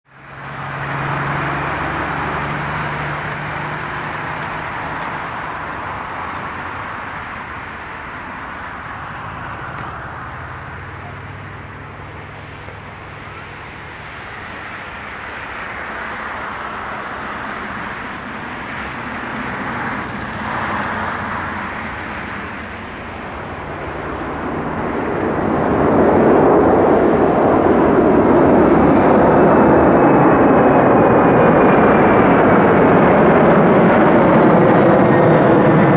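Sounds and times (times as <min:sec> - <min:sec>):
jet engine rumble: 0:00.1 - 0:35.9.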